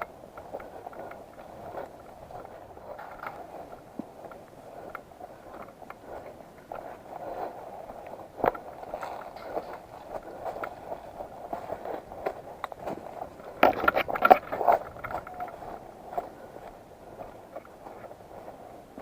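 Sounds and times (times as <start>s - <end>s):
footsteps through brush: 0.0s - 19.0s.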